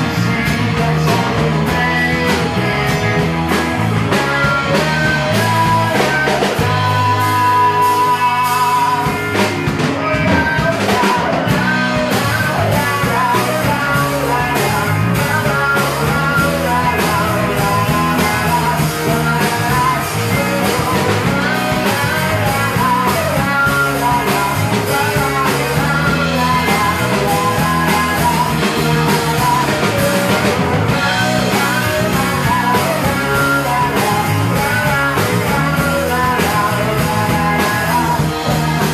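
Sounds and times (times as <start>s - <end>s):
live rock band: 0.0s - 38.9s
person singing: 0.0s - 38.9s.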